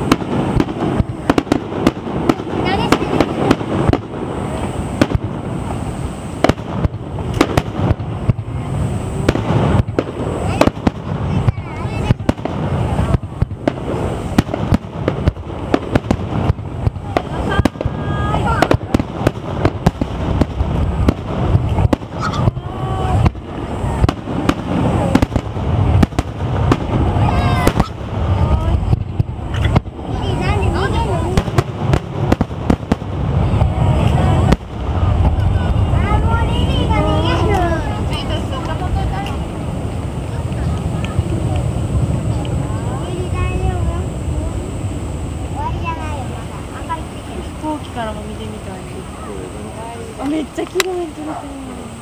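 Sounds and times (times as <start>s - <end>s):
fireworks bursting with sharp bangs: 0.0s - 52.0s
rumble of distant bursts: 0.0s - 52.0s.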